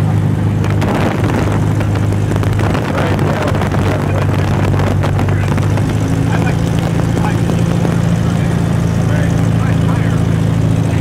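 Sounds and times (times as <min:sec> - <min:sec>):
aircraft engine and propeller drone: 0:00.0 - 0:11.0
wind buffeting microphone: 0:00.3 - 0:09.6.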